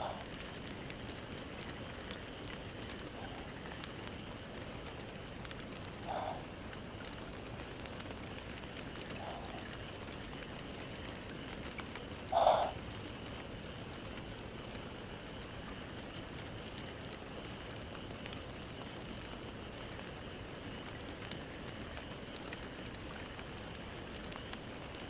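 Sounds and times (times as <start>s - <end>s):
background hiss: 0.0s - 25.0s
faint high hum: 0.0s - 25.0s.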